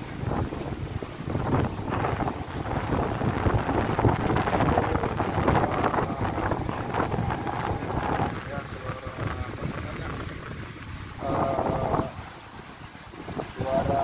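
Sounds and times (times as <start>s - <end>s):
heavy rain: 0.0s - 14.0s
wind buffeting microphone: 0.0s - 14.0s.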